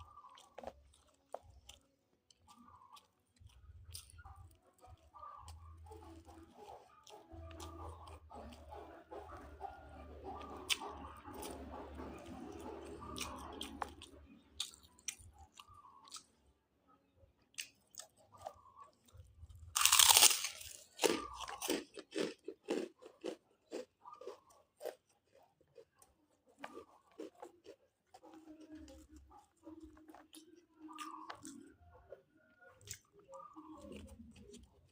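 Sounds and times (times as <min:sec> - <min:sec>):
person chewing and crunching food: 0:00.0 - 0:34.9.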